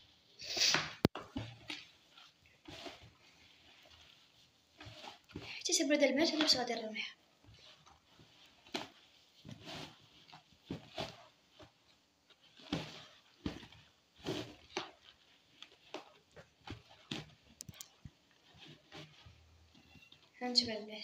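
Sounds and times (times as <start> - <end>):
hand rustling couscous in basin: 1.2 - 21.0.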